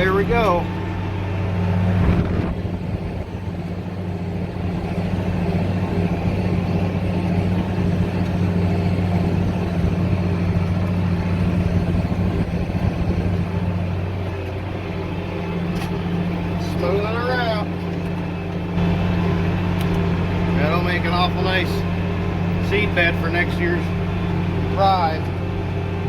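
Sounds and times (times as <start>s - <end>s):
tractor engine rumbling: 0.0s - 26.0s.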